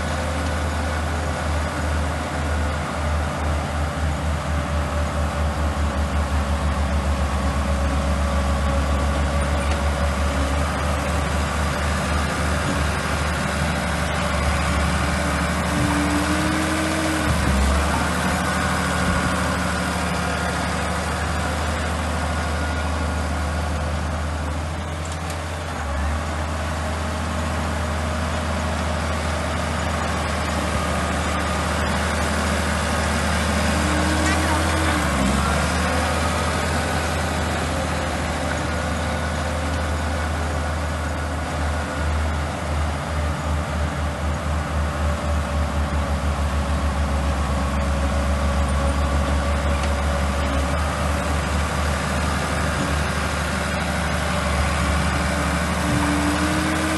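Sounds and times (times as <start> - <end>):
bulldozer diesel engine under load: 0.0 - 56.9.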